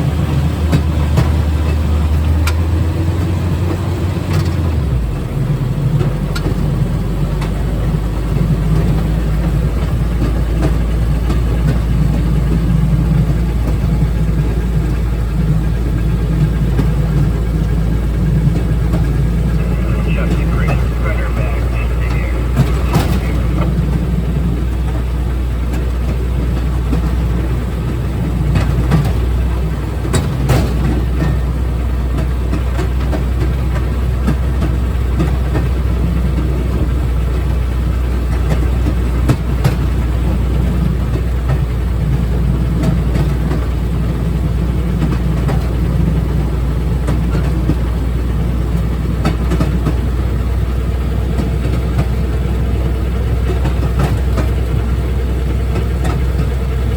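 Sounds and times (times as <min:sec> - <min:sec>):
engine drone: 0:00.0 - 0:56.9
rail noise: 0:00.0 - 0:56.9.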